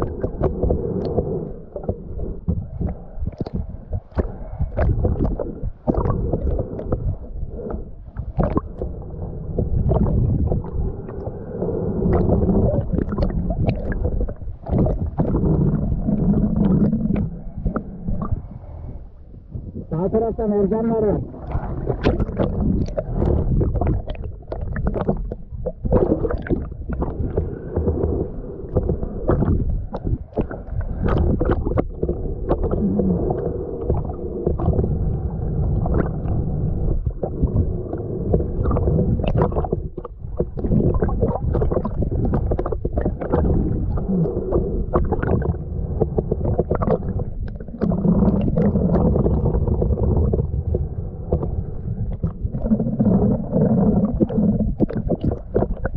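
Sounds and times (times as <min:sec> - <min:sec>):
muffled underwater rumbling and gurgling: 0:00.0 - 0:55.9.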